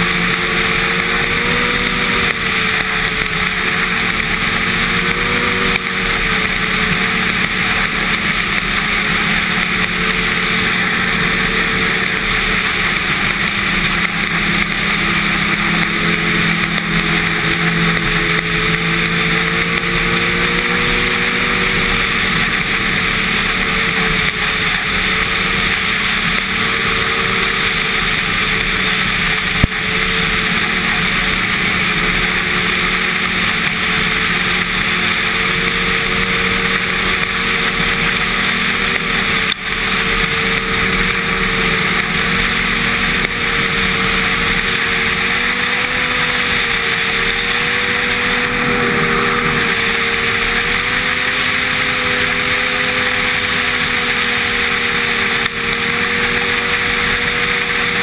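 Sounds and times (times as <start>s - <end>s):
snowmobile engine running: 0.0s - 58.0s
steady rushing hiss: 0.0s - 58.0s.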